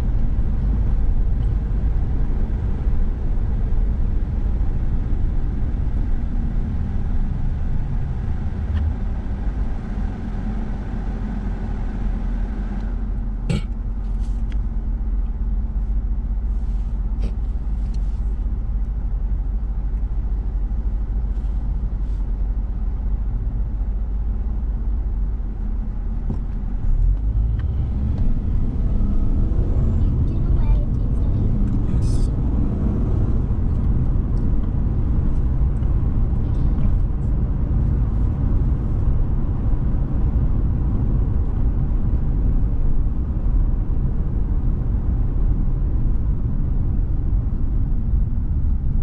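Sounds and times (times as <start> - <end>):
car engine rumble inside cabin: 0.0 - 49.0.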